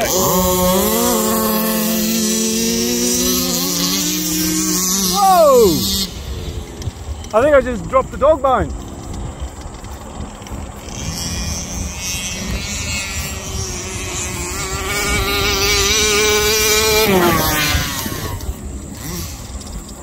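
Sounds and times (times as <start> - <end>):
small two-stroke engine revving: 0.0 - 20.0.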